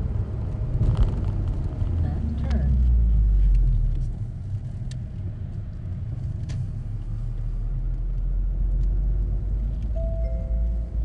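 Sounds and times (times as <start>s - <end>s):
car engine: 0.0s - 11.0s
road rumble: 0.0s - 11.0s
wind: 0.0s - 11.0s.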